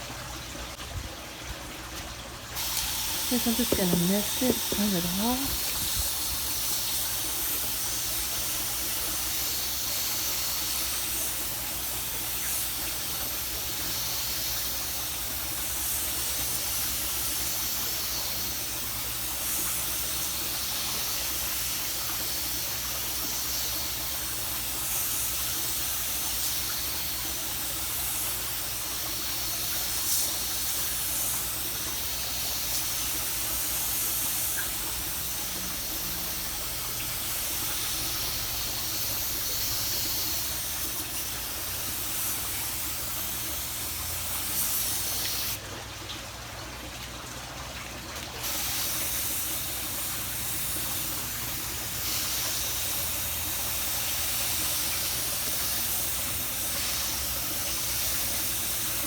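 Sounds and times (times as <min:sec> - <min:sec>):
steady hissing noise: 0:02.6 - 0:45.7, 0:48.4 - 0:59.0.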